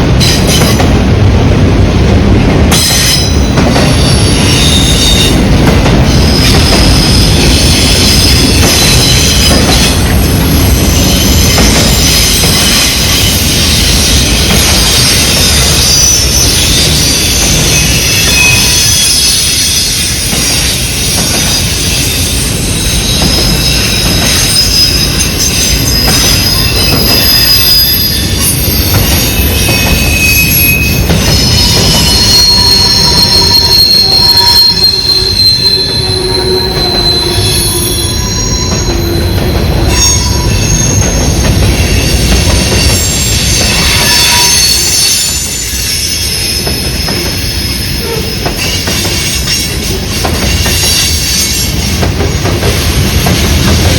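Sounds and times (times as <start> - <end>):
freight train rumbling: 0.0 - 53.9
steel wheels squealing: 2.8 - 53.9.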